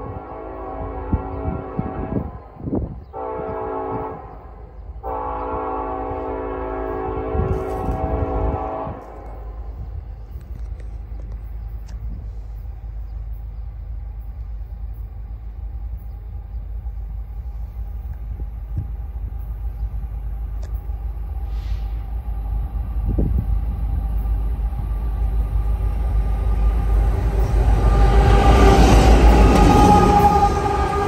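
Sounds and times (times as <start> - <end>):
diesel train rumbling: 0.0 - 31.0.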